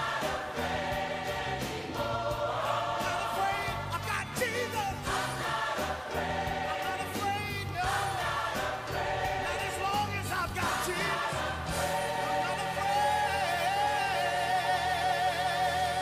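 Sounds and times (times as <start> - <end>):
choir singing: 0.0 - 16.0
instrumental accompaniment with bass: 0.0 - 16.0.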